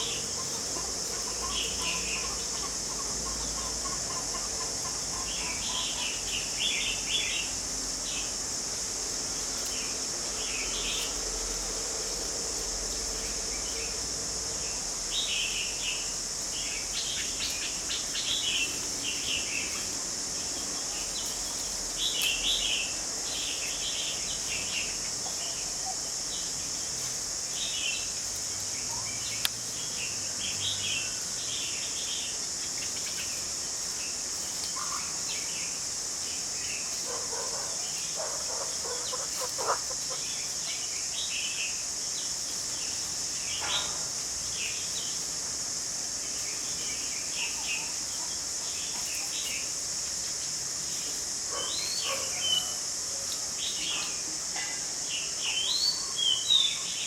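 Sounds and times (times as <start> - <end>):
small birds chirping: 0.0 - 8.4, 14.6 - 52.8
high insect drone: 0.0 - 57.0.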